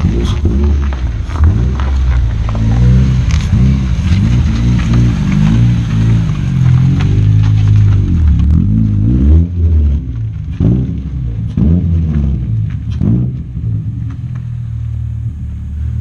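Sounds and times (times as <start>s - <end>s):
car engine revving past: 0.0s - 13.8s
exhaust crackles: 0.0s - 16.0s.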